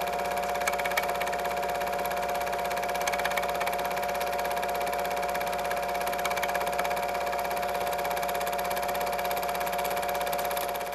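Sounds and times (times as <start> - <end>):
film projector running: 0.0 - 10.9.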